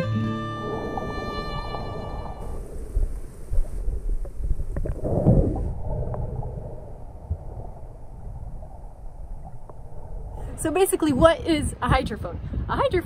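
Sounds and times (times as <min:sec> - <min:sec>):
surge of water: 0:00.0 - 0:11.3
muffled underwater rumble: 0:00.0 - 0:13.0.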